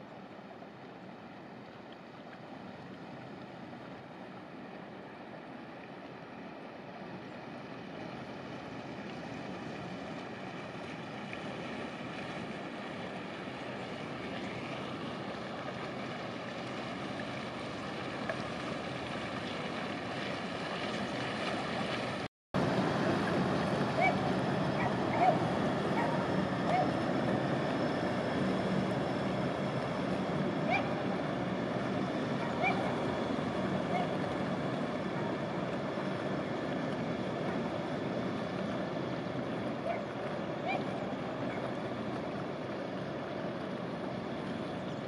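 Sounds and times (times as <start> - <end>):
faint engine hum: 0.0 - 45.0
water rushing along hull: 0.0 - 45.0.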